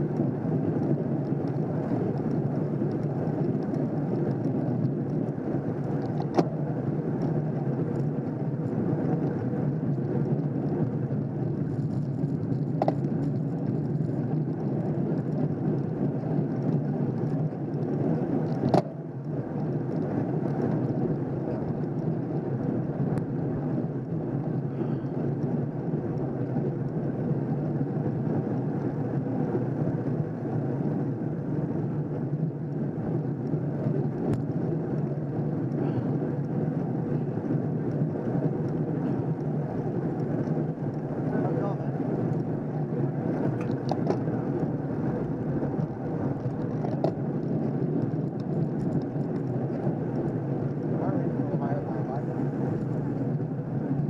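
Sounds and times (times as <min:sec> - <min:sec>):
bicycle road rumble: 0:00.0 - 0:54.0
wind noise: 0:00.0 - 0:54.0.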